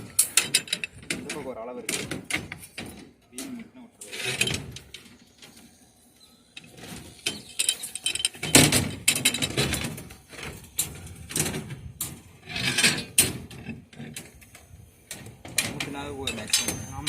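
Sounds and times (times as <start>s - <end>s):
steel rods clattering and scraping: 0.0s - 17.0s.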